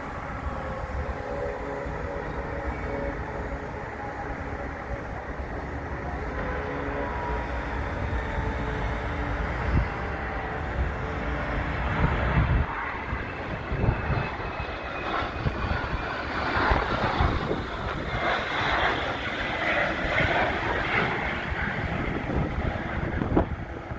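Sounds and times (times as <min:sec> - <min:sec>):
jet engines whining: 0:00.0 - 0:23.9
wind buffeting microphone: 0:00.0 - 0:23.9.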